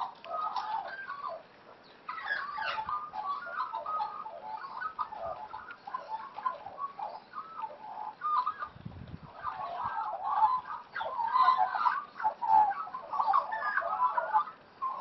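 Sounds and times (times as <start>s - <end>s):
magpies warbling: 0.0s - 15.0s.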